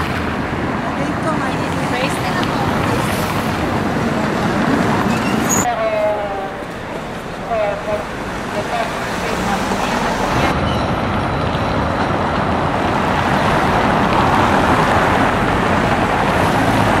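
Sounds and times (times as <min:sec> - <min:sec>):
street traffic rushing: 0:00.0 - 0:17.0.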